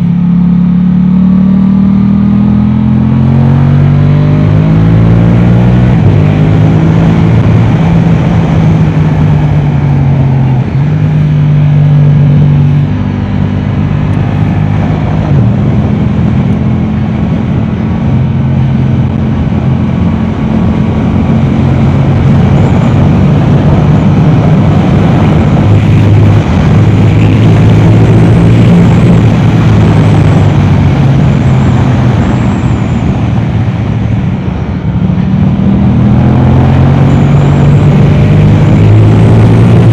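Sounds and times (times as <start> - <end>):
motorcycle engine shifting gears: 0.0 - 39.9
wind and road noise: 0.0 - 39.9.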